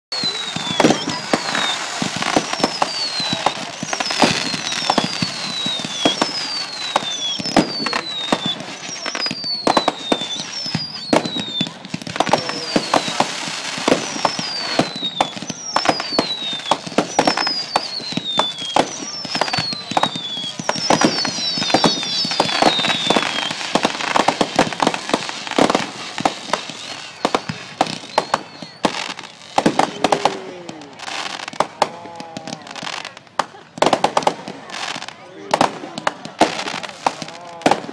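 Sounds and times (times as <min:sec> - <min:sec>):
fireworks bangs and crackles: 0:00.1 - 0:37.9
whistling fireworks shells: 0:00.1 - 0:37.9.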